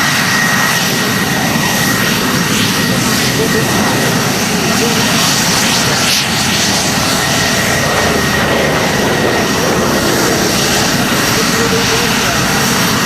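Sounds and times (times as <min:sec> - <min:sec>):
aircraft engines roaring: 0:00.0 - 0:13.0.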